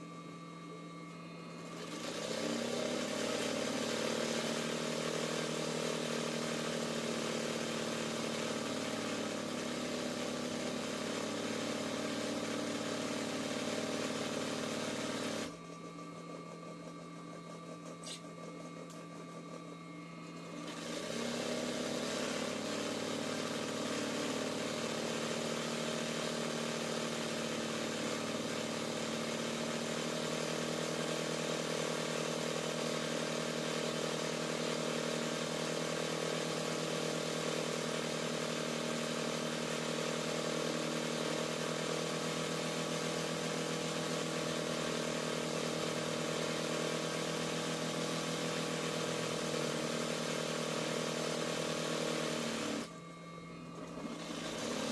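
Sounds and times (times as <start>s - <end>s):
sewing machine running: 1.3s - 53.0s, 53.7s - 54.9s.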